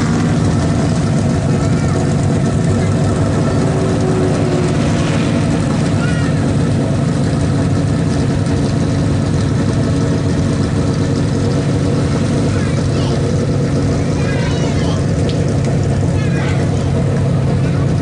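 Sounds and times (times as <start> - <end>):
stock car engines running: 0.0 - 18.0.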